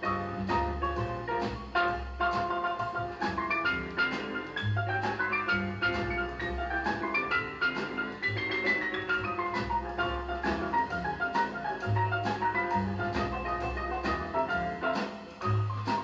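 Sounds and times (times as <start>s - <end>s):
jazz record playing: 0.0s - 16.0s.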